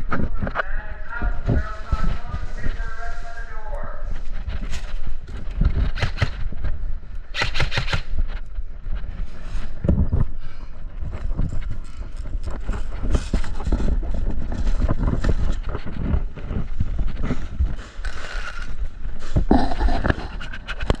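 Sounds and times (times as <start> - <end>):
wind rumble: 0.0 - 21.0.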